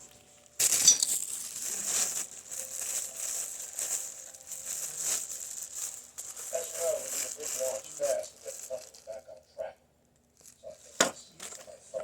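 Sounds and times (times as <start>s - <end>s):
rustling crinkling handling noise: 0.0s - 9.5s, 10.2s - 12.0s.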